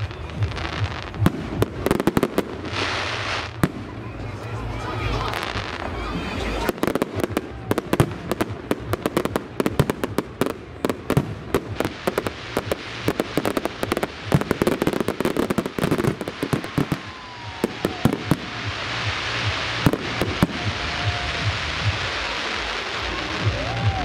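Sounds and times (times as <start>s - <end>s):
steady hiss: 0.0s - 4.0s, 4.8s - 24.0s
fireworks cracking and popping: 0.0s - 24.0s.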